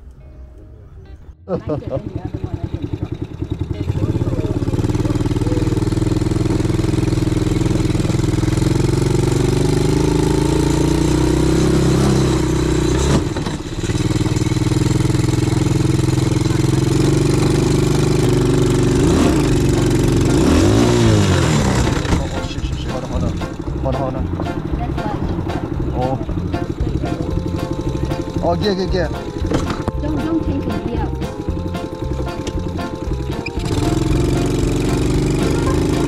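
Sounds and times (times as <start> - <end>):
atv engine revving: 1.5 - 36.0.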